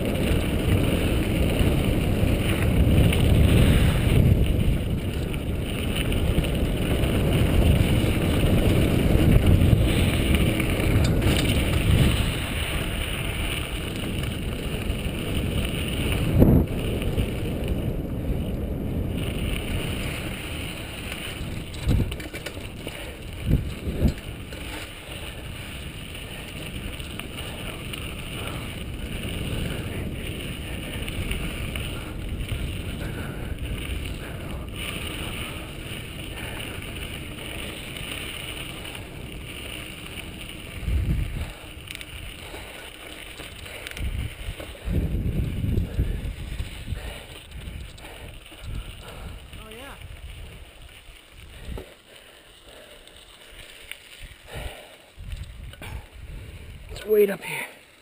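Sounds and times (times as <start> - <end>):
bike knocking on bumps: 0.0 - 52.4
mountain bike rolling on dirt: 0.0 - 58.0
wind rumbling on microphone: 0.0 - 58.0.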